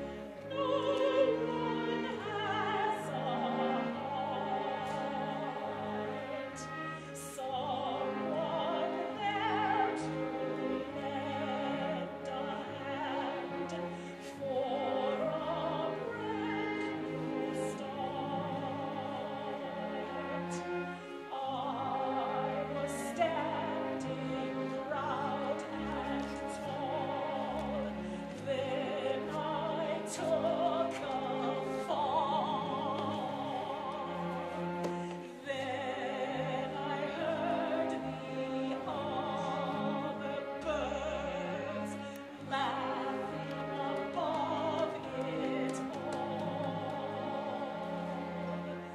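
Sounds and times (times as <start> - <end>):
opera singing with vibrato: 0.0 - 48.9
orchestral accompaniment: 0.0 - 48.9.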